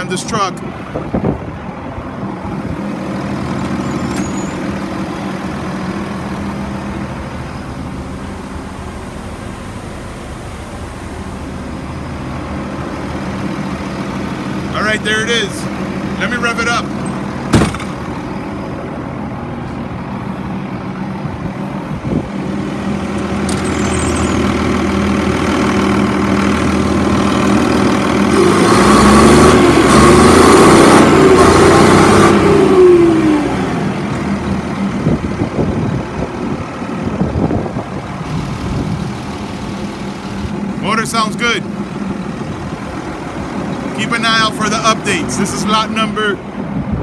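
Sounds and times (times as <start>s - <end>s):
diesel truck engine idling and revving: 0.0s - 47.0s.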